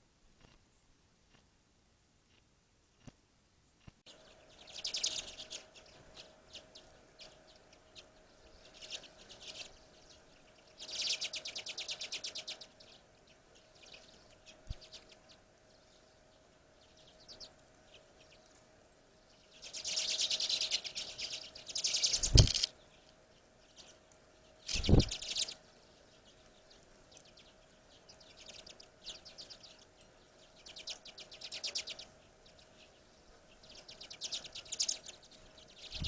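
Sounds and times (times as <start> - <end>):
songbirds trilling and chipping: 3.7 - 36.0.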